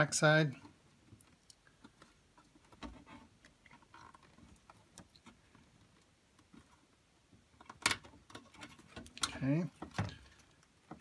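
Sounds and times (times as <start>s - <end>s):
faint plastic clicks and handling: 0.6s - 11.0s.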